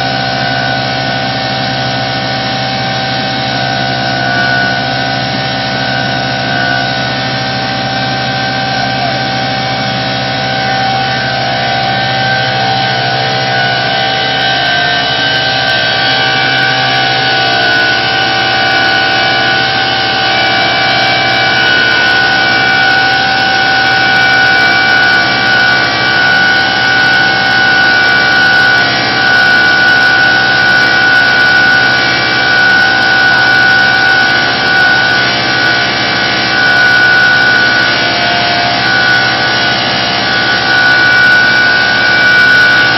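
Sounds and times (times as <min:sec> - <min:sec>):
blower whine: 0:00.0 - 0:42.9
low motor hum: 0:00.0 - 0:42.9.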